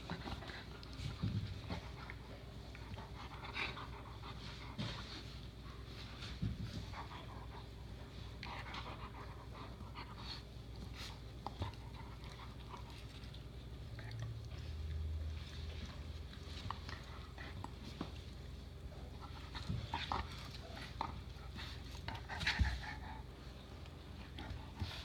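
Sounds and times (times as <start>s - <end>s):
dogs panting: 0.0s - 25.0s.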